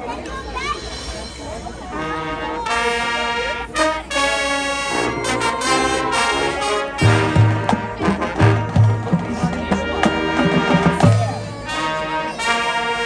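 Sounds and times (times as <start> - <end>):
crowd murmur: 0.0 - 13.0
marching band brass chords: 1.9 - 13.0.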